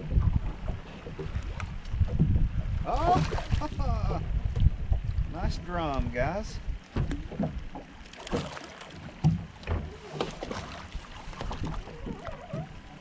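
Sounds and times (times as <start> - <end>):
wind rumble on microphone: 0.0 - 7.9, 9.0 - 13.0
water lapping against hull: 0.0 - 13.0.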